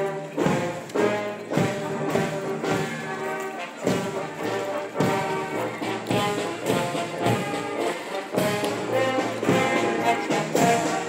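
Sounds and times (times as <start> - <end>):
brass band playing a march: 0.0 - 11.0
drum beats: 0.0 - 11.0.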